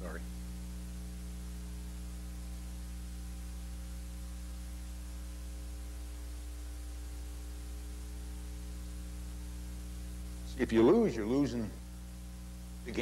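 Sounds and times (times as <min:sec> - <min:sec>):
constant hiss: 0:00.0 - 0:13.0
electrical mains hum: 0:00.0 - 0:13.0.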